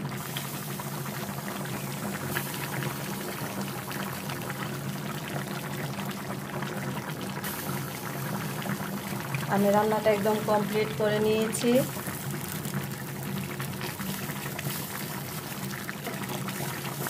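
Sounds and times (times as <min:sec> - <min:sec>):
curry bubbling in a pan: 0:00.0 - 0:17.0.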